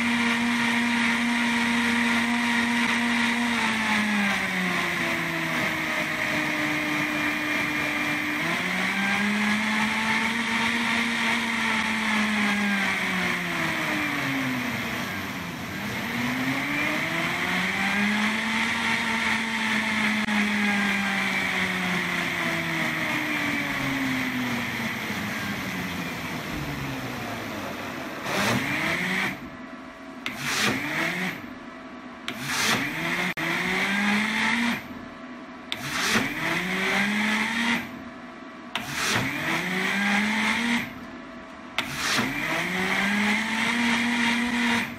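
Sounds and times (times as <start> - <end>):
blender motor running: 0.0 - 29.6, 30.2 - 31.6, 32.3 - 34.9, 35.7 - 38.0, 38.8 - 41.0, 41.8 - 44.9.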